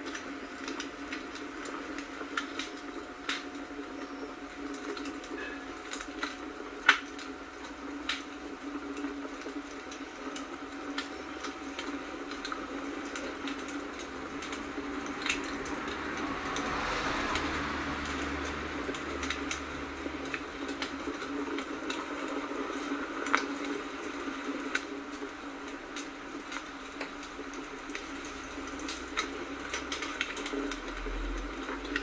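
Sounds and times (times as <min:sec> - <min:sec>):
fire pops and snaps: 0:00.0 - 0:32.0
log fire crackling: 0:00.0 - 0:32.0
steady fire hiss: 0:00.0 - 0:32.0.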